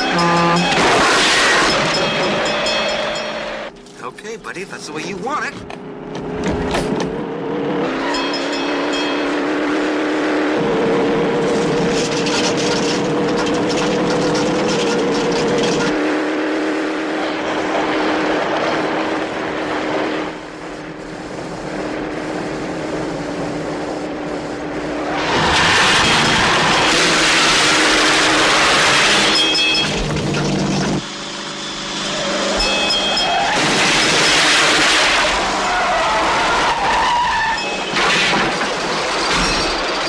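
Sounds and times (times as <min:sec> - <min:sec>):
truck and car engines droning: 0:00.0 - 0:40.0.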